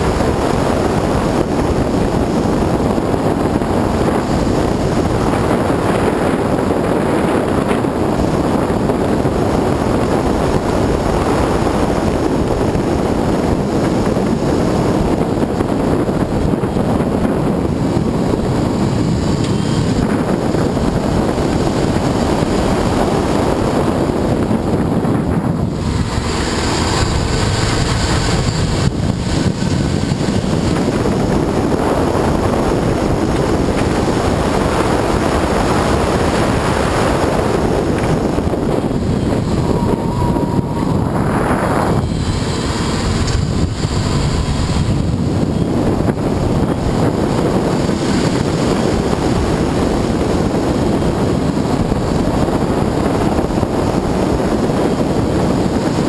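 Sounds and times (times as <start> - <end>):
car engine pulling at speed: 0.0 - 56.0
wind rushing: 0.0 - 56.0.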